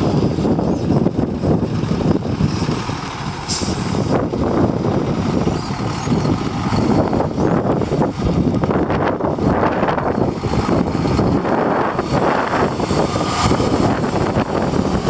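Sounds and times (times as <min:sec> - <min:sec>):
truck diesel engine running: 0:00.0 - 0:15.0
wind buffeting microphone: 0:00.0 - 0:15.0.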